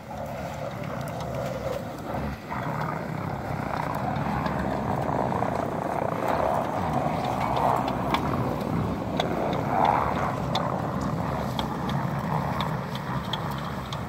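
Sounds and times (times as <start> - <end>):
suv engine working hard: 0.0 - 14.0.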